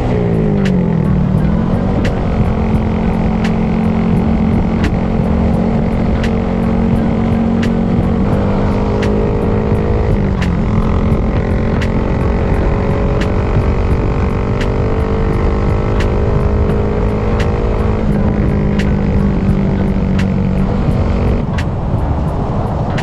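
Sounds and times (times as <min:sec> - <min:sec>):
motorcycle engine running: 0:00.0 - 0:23.0
wind rumble on microphone: 0:00.0 - 0:23.0.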